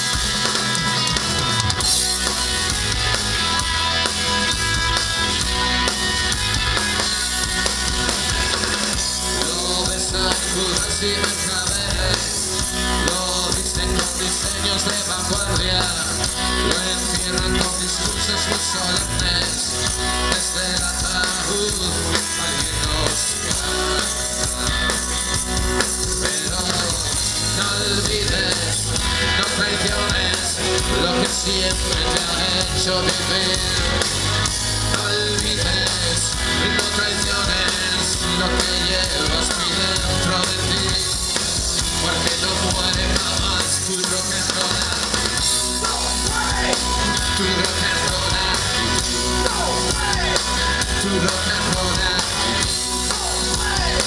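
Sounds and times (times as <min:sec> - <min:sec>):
bass guitar: 0:00.0 - 0:54.0
drum kit: 0:00.0 - 0:54.0
electric guitars: 0:00.0 - 0:54.0
man singing into a microphone: 0:08.9 - 0:54.0.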